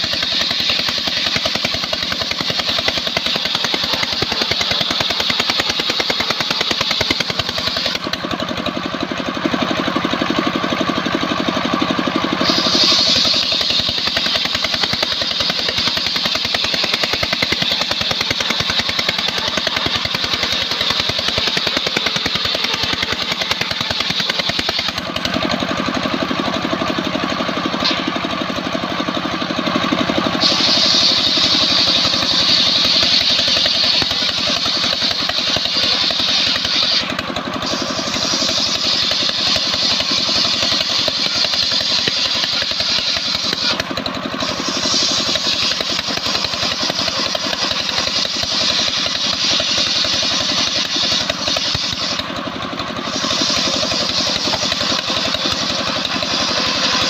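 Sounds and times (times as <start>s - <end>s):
engine running steadily: 0.0s - 57.0s
high saw blade whine: 0.0s - 57.0s.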